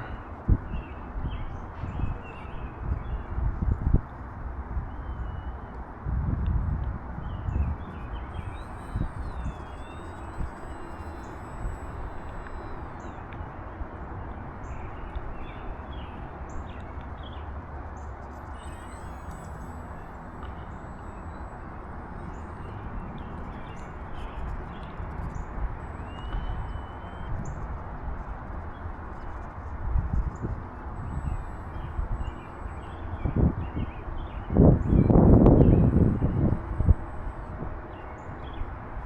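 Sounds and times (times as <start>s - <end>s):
wind buffeting microphone: 0.0s - 16.4s, 21.6s - 37.9s
faint bird chirps: 4.9s - 5.8s, 7.2s - 38.9s.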